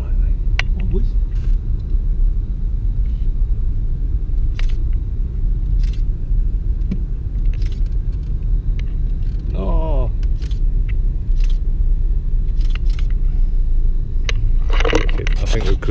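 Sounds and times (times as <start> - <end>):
car interior engine rumble: 0.0 - 15.9.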